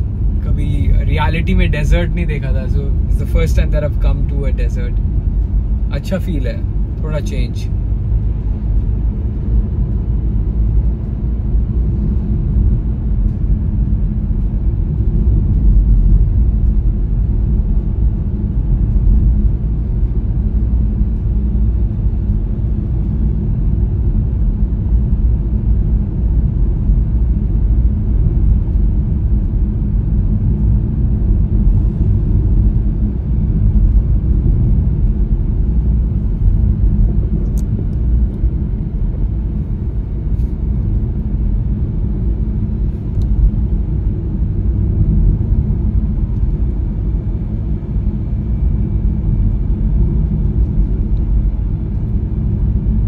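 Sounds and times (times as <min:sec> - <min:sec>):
car cabin road and engine rumble: 0:00.0 - 0:53.0.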